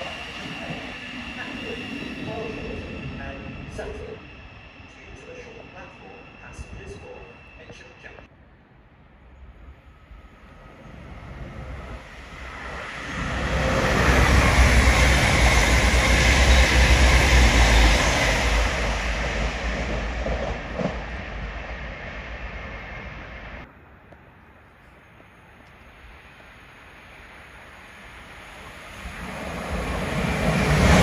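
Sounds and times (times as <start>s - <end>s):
diesel train passing at speed: 0.0s - 31.0s
rail noise: 0.0s - 31.0s.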